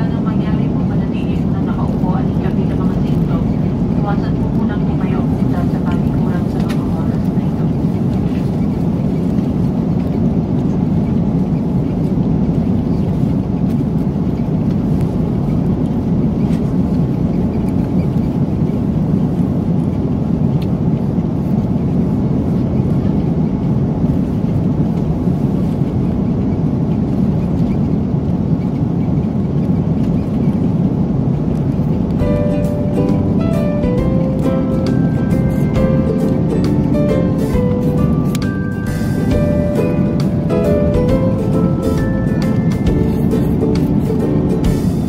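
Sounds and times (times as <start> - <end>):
airliner cabin rumble: 0.0 - 45.0.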